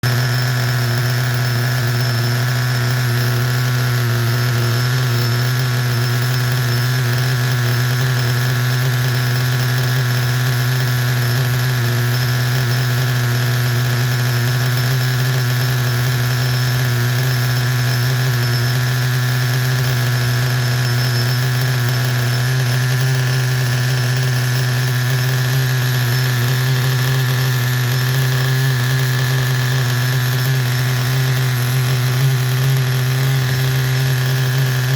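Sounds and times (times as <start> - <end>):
rc car engine idling: 0.0 - 34.9.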